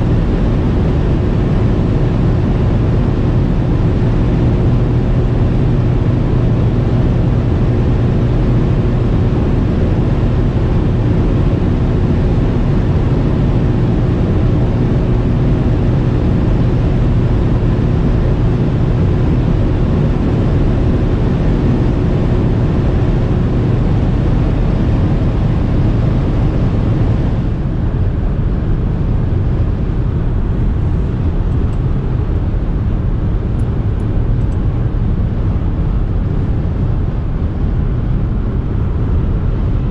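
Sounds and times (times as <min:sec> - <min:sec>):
car engine tyres and wind drone: 0:00.0 - 0:39.9.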